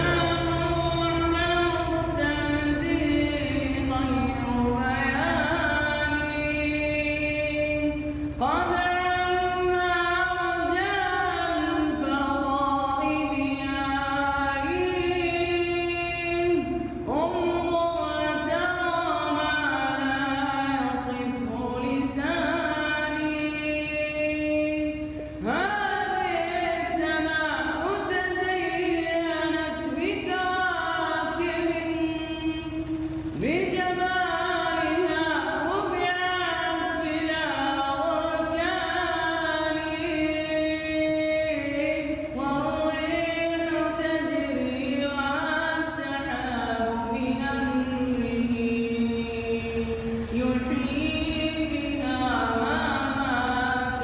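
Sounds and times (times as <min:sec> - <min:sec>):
man singing unaccompanied: 0:00.0 - 0:54.0.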